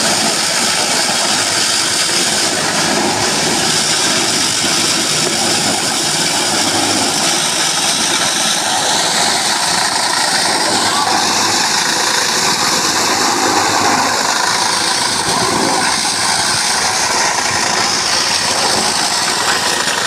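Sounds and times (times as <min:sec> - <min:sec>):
corn grinding machine running: 0:00.0 - 0:20.0.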